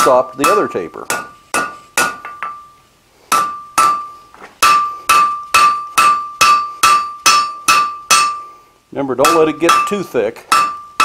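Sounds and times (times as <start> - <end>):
hammer striking metal on anvil: 0.0 - 8.5, 9.2 - 11.0.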